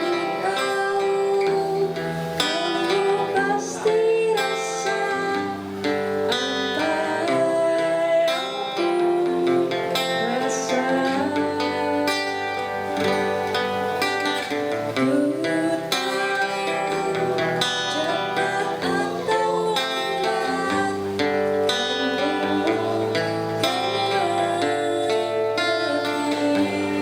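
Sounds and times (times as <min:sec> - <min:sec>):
plucked and strummed guitars: 0:00.0 - 0:27.0.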